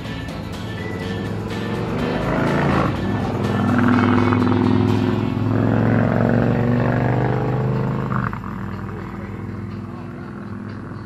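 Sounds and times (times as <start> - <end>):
vehicle engine running loudly: 0.0 - 11.0.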